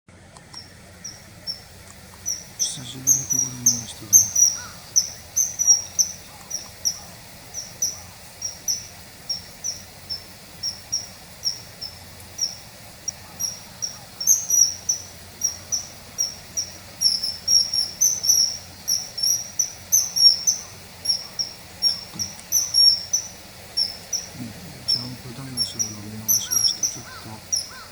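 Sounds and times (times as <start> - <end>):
kingfisher whistled calls: 0.6 - 27.9.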